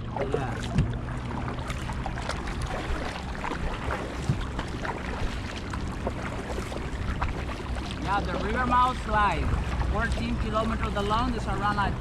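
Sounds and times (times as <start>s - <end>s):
paddles splashing in water: 0.0s - 12.0s.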